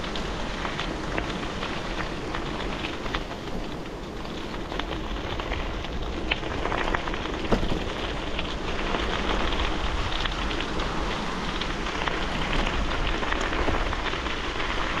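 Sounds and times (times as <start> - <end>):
bicycle tyres on gravel: 0.0 - 15.0.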